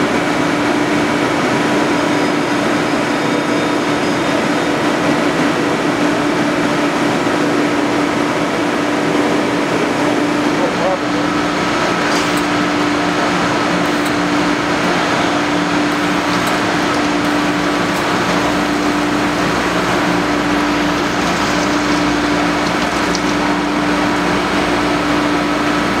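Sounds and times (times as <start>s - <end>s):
machine hum: 0.0s - 26.0s
rush of coolant and cutting: 0.0s - 26.0s.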